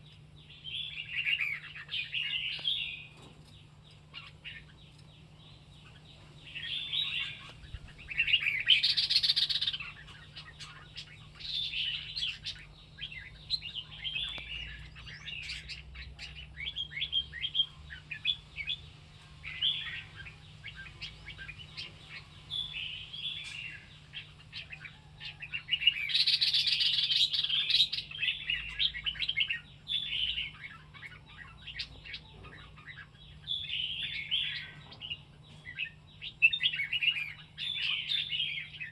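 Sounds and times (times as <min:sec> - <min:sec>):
bird singing varied phrases: 0:00.0 - 0:38.9.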